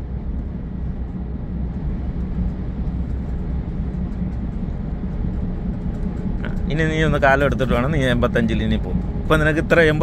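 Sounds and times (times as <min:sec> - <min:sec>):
truck engine and tyre drone: 0:00.0 - 0:10.0.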